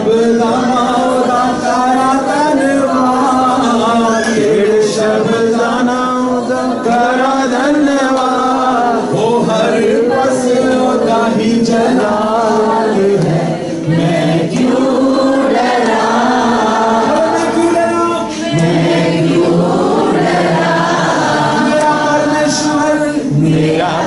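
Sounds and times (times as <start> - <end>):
group singing chant-like song: 0.0 - 24.0.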